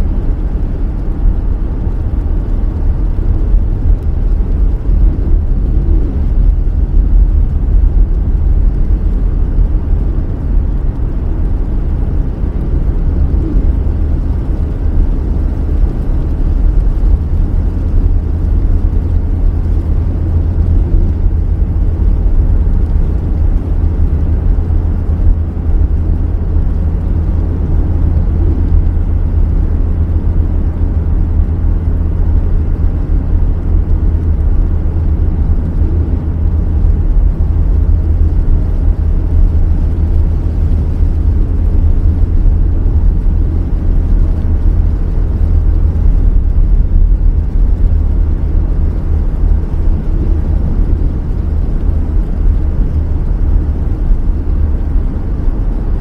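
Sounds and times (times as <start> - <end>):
car road and engine rumble: 0.0 - 56.0
rain hiss: 0.0 - 56.0.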